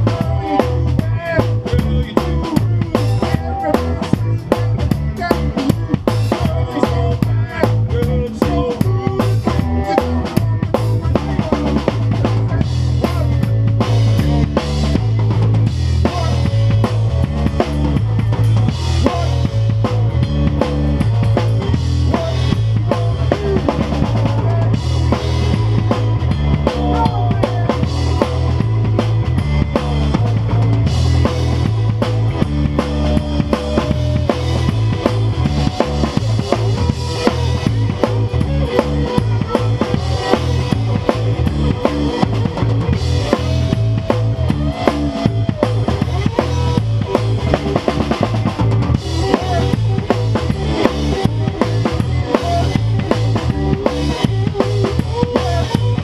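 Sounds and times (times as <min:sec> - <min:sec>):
drum kit steady beat: 0:00.0 - 0:56.0
electric guitar: 0:00.0 - 0:56.0
heavy electric bass line: 0:00.0 - 0:56.0.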